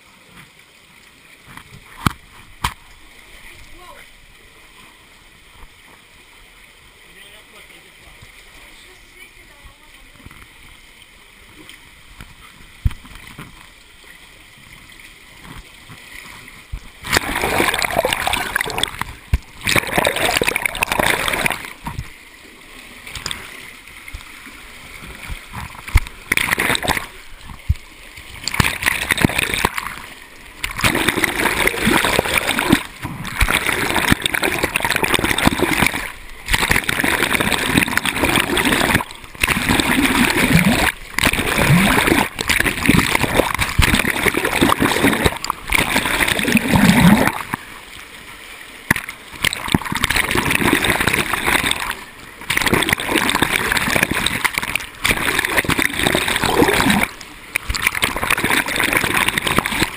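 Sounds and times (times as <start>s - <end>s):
water splashing and sloshing: 0.0s - 59.9s.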